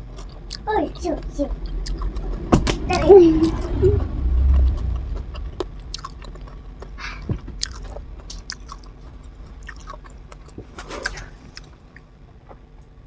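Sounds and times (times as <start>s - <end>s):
person chewing: 0.0s - 2.5s, 4.5s - 12.6s.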